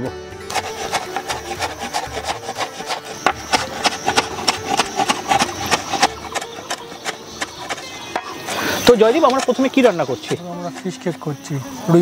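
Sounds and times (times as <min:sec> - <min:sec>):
cleaver chopping on wooden board: 0:00.5 - 0:11.0.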